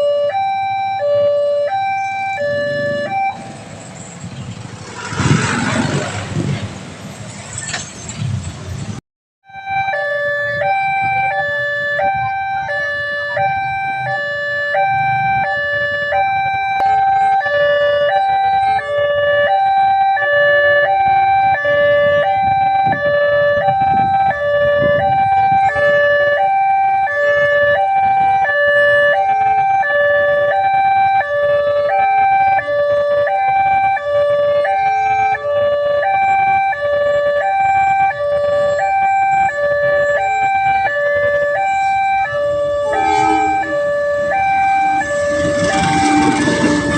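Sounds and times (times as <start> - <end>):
level crossing two-tone alarm: 0.0 - 3.4, 9.5 - 31.2, 33.3 - 46.9.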